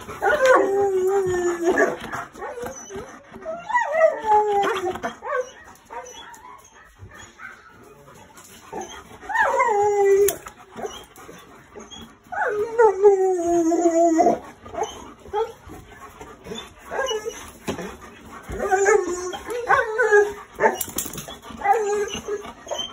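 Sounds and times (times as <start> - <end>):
dog howling: 0.0 - 22.9
dog whining: 0.0 - 22.9.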